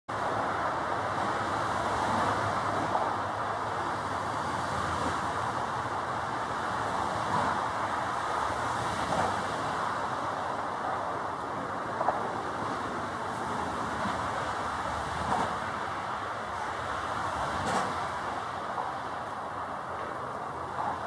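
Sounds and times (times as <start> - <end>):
rushing outdoor background noise: 0.1 - 21.0.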